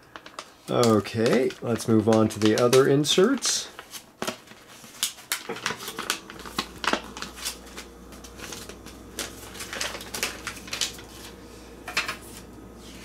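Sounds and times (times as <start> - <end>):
paper and cardboard rustling: 0.1 - 11.4.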